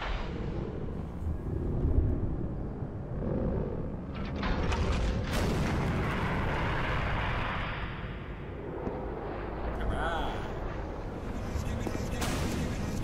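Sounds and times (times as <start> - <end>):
rumble of explosions and booms: 0.0 - 13.0.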